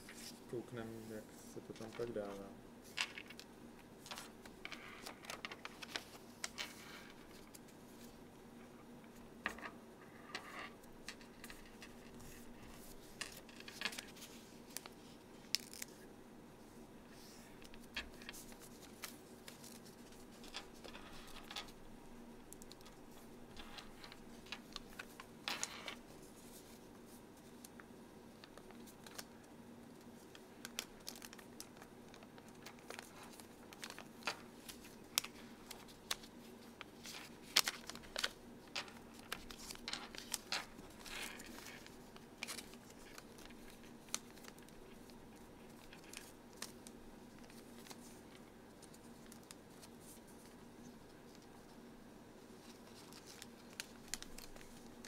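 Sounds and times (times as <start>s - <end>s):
paper rustling and crinkling: 0.0s - 8.2s, 11.0s - 16.0s, 17.1s - 21.8s, 22.5s - 51.7s, 52.4s - 55.0s.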